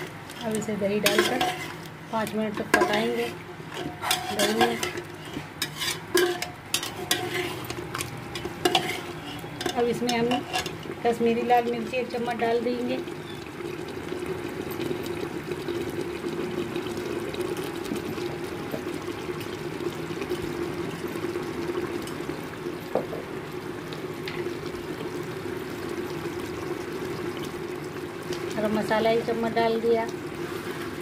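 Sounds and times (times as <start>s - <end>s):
meat bubbling and sizzling: 0.0s - 31.0s.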